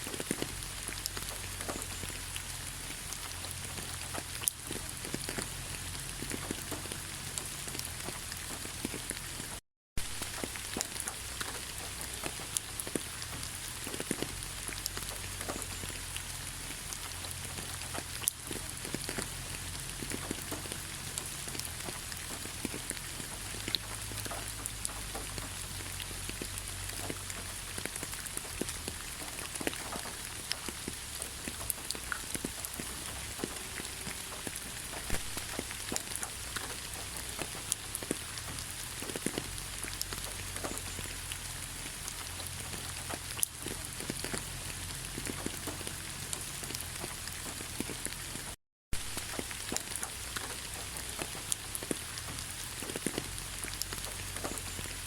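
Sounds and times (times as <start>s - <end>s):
rain falling on trees: 0.0s - 55.0s.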